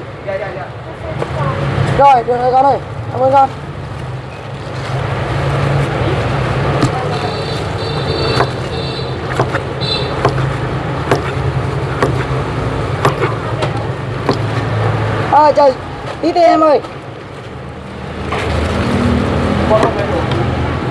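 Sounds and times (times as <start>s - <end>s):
low traffic hum: 0.0s - 20.9s.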